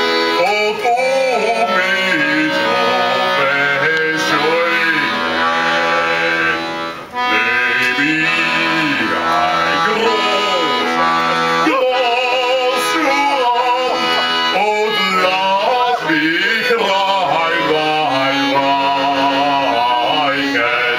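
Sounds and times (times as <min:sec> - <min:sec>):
instrumental accompaniment: 0:00.0 - 0:20.9
person singing with vibrato: 0:00.0 - 0:20.9.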